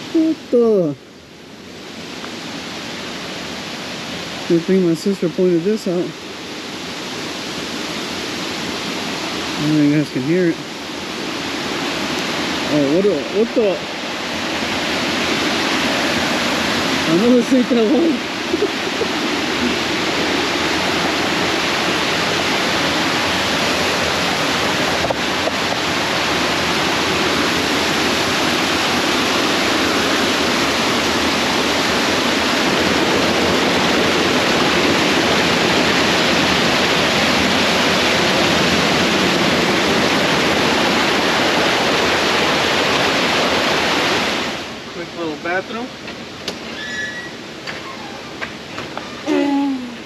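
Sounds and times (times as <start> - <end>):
waterfall splashing: 0.0 - 50.0.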